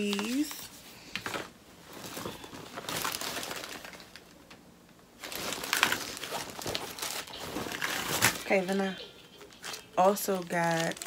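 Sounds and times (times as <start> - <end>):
packaging crinkling: 0.0 - 4.6, 5.2 - 11.0.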